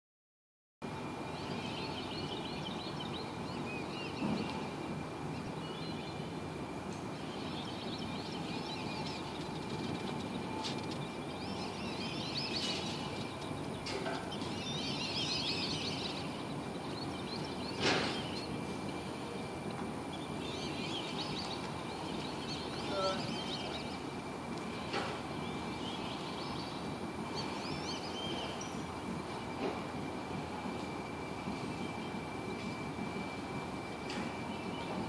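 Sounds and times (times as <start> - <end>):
steady background hiss: 0.9 - 35.0
thin steady high tone: 0.9 - 35.0
birds chirping: 1.2 - 30.3.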